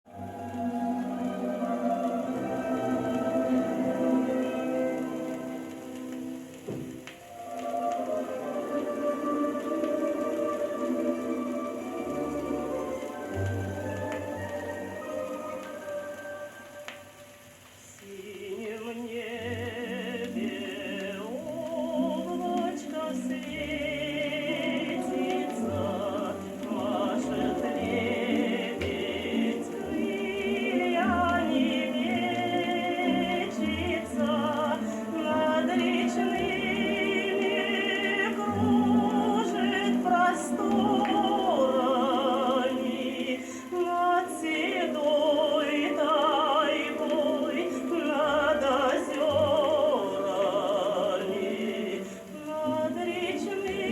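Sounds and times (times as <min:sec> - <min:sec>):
orchestral song on gramophone: 0:00.0 - 0:53.9.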